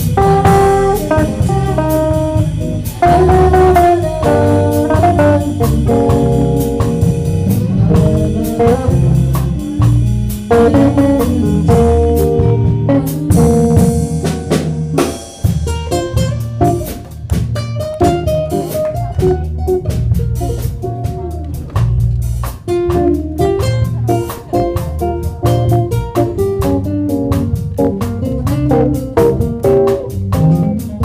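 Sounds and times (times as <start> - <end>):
acoustic guitar: 0.0 - 31.0
drum kit: 0.0 - 31.0
electric guitar: 0.0 - 31.0.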